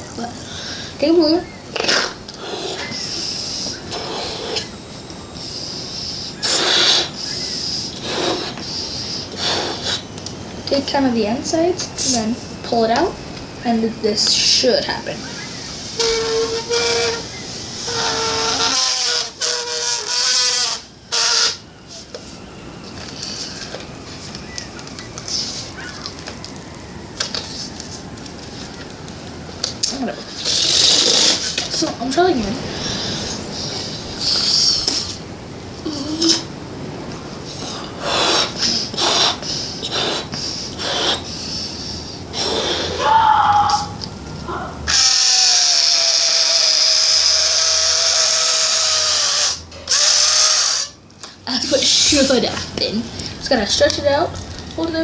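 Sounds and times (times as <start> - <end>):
air hissing from balloon: 0.0 - 12.8, 13.6 - 24.4, 25.2 - 25.9, 29.7 - 36.5, 37.3 - 44.0, 44.9 - 51.0.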